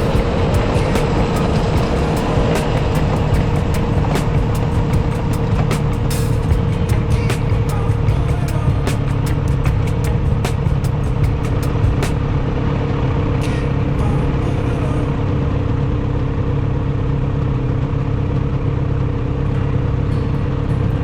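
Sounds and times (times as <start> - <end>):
two-stroke engine running: 0.0 - 21.0.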